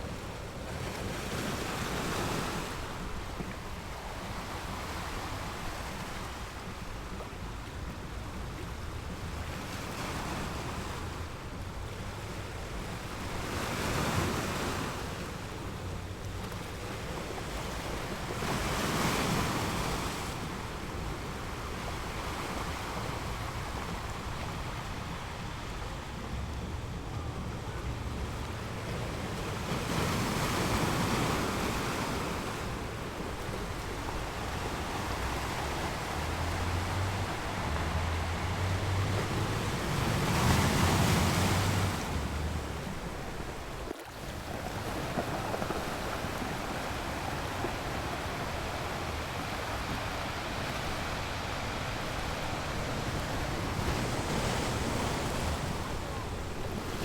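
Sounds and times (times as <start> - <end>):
waves breaking on beach: 0.0 - 57.0
wind rumble on microphone: 0.0 - 57.0.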